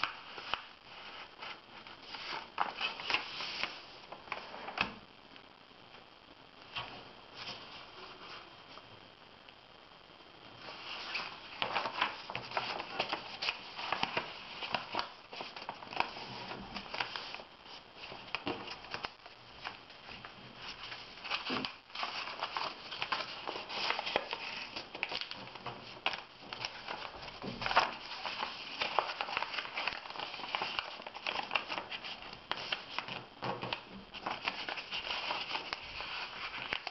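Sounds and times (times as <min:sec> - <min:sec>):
paper rustling and crackling: 0:00.0 - 0:05.0, 0:10.6 - 0:36.9.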